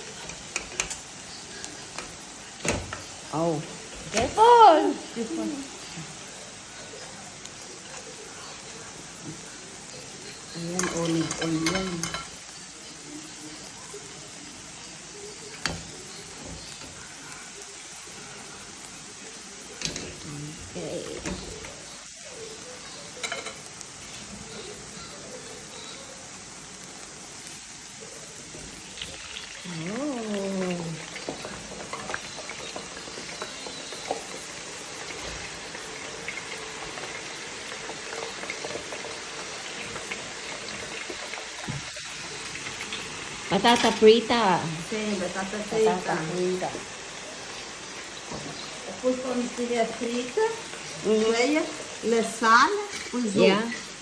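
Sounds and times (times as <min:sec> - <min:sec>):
potatoes sizzling in oil: 0:00.0 - 0:54.0.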